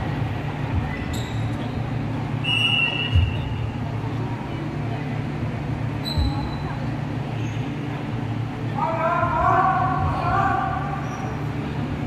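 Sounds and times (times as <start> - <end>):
murmur of voices in a hall: 0.0 - 12.0.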